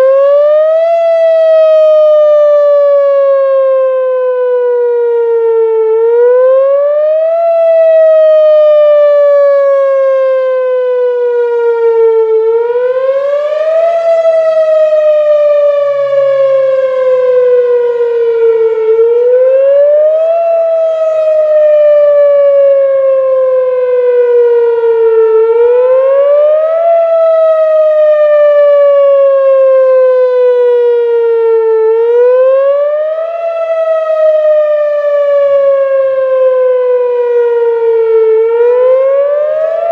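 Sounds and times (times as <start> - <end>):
siren wailing: 0.0 - 39.9.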